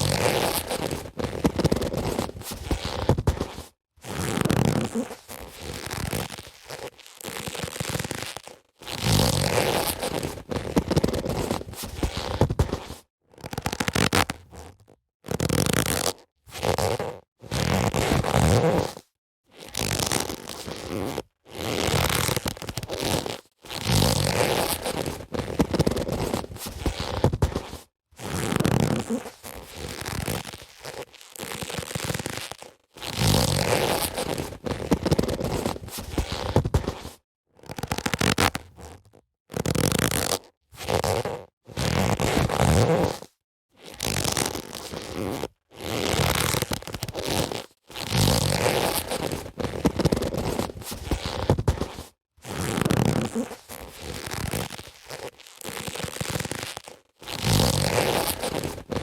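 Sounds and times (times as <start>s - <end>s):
boxing gloves rubbing and creaking: 0.0s - 59.0s.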